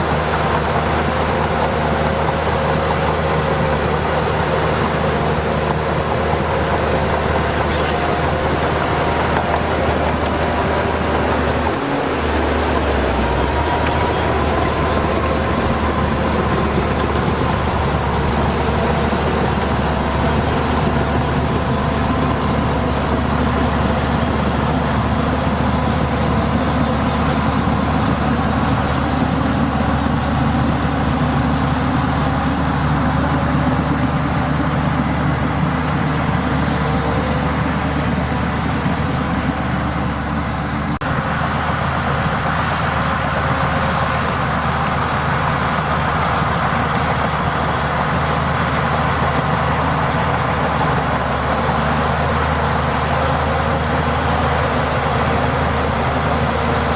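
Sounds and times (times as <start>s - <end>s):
heavy machinery diesel engine: 0.0s - 56.9s.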